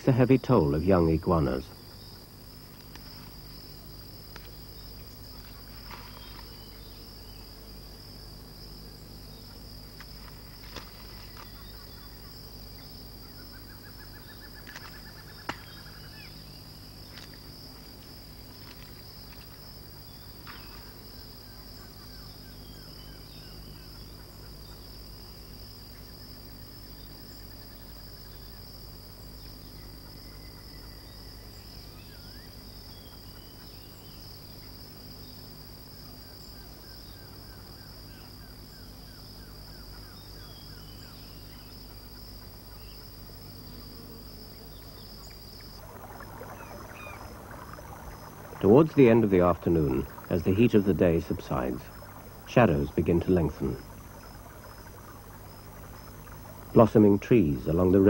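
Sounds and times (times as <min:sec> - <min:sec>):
insect chorus trilling: 0:00.0 - 0:58.0
low constant hum: 0:00.0 - 0:58.0.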